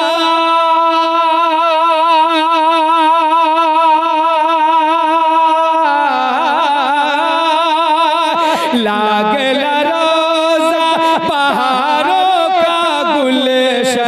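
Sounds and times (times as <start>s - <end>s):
devotional vocal music: 0.0s - 14.0s.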